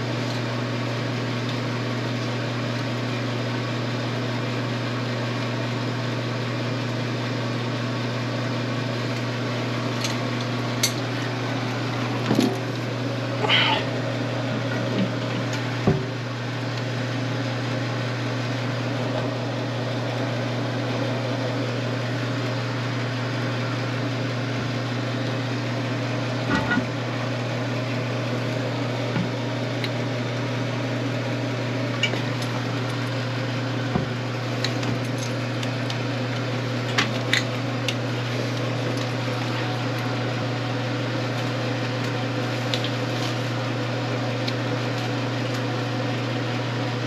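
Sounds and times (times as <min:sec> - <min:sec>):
steady motor hum: 0:00.0 - 0:47.0.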